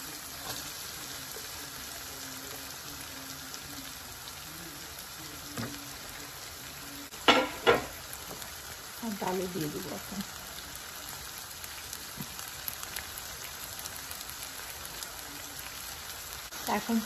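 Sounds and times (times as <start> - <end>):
masala sizzling in a pan: 0.0 - 17.0.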